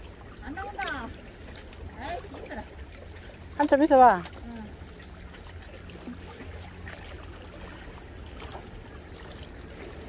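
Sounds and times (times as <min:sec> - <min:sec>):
seawater lapping over rocks: 0:00.0 - 0:10.0
water trickling: 0:00.0 - 0:10.0.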